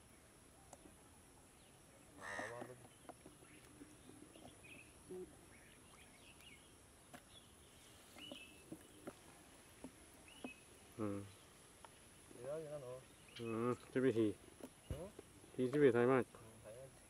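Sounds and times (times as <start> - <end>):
bird chirps: 0.0 - 15.3.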